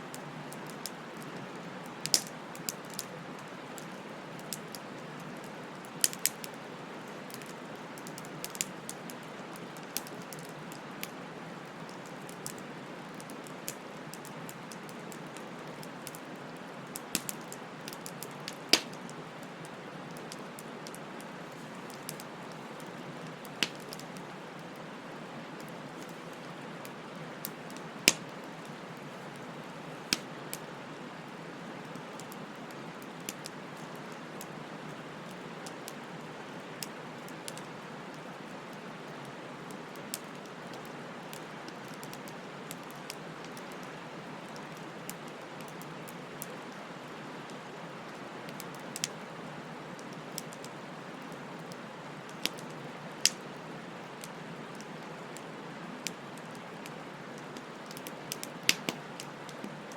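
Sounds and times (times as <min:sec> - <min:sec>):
bonfire crackling and popping: 0:00.1 - 0:59.9.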